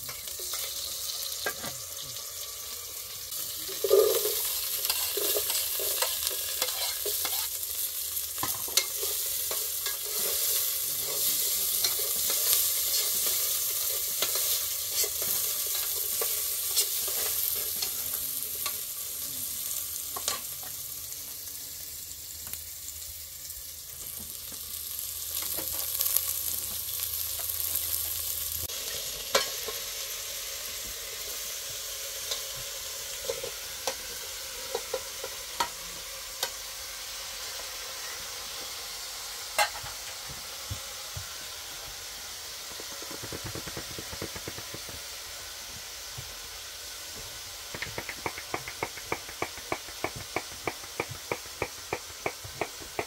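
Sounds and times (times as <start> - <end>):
potatoes sizzling in hot oil: 0.0 - 53.0.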